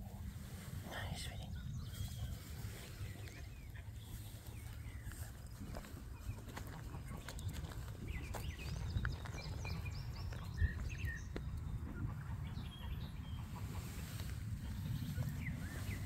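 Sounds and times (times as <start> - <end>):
small birds chirping: 0.0 - 16.0
wind rumble on microphone: 0.0 - 16.0.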